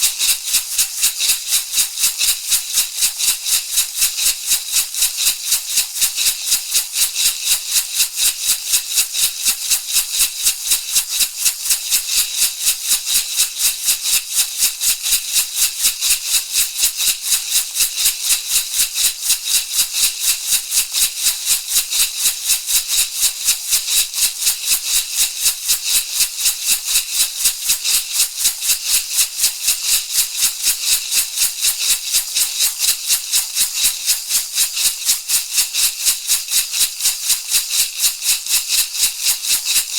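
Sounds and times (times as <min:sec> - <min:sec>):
rattle shaken fast: 0:00.0 - 0:39.9.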